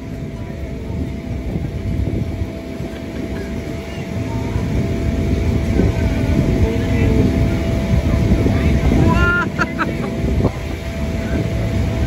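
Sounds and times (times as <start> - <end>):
machine hum with low rumble: 0.0 - 12.0.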